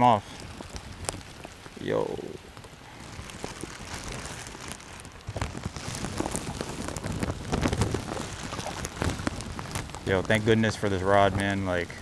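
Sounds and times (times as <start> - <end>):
rain drops hitting: 0.0 - 12.0.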